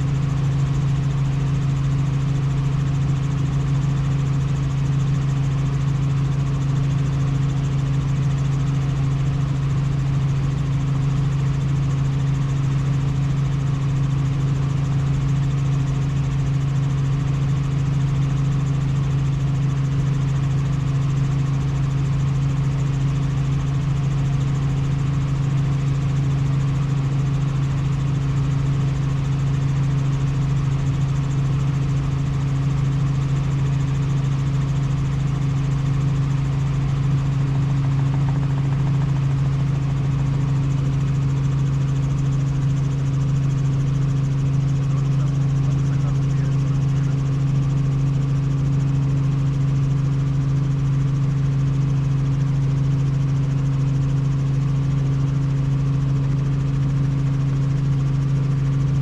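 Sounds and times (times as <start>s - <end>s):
helicopter engine and rotors drone: 0.0s - 59.0s.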